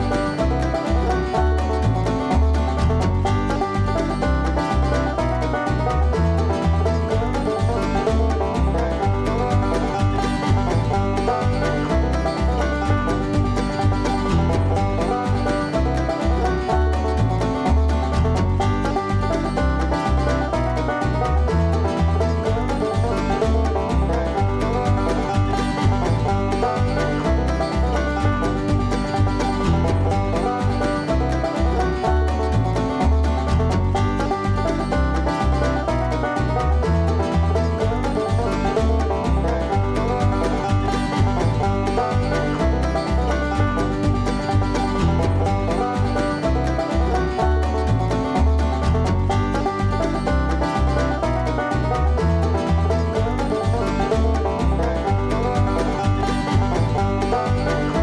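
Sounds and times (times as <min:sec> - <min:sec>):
bluegrass banjo music: 0:00.0 - 0:58.0.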